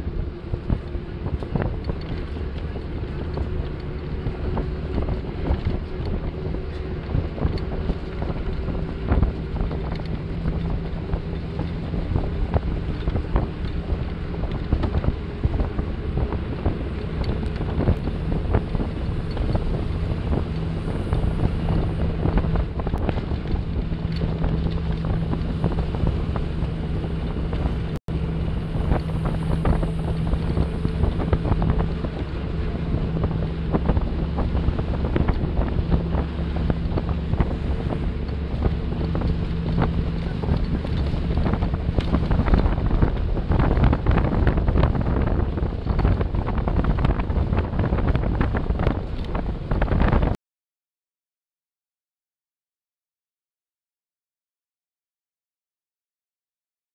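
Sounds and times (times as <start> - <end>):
low engine hum: 0.0 - 50.4
road noise: 0.0 - 50.4
wind buffeting microphone: 0.0 - 50.4.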